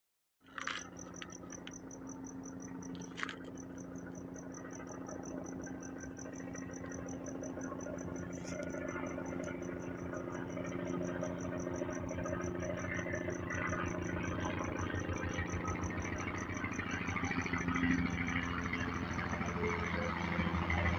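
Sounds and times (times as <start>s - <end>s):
helicopter rotor drone: 0.6s - 20.9s.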